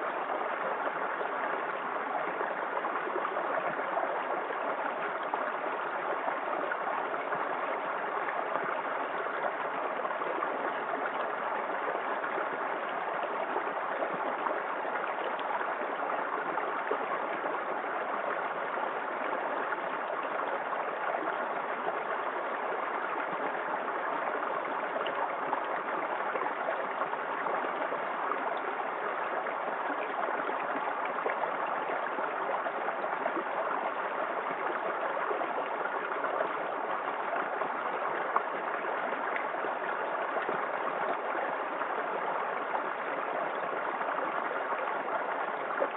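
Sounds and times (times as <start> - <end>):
small waterfall pouring: 0.0 - 45.9.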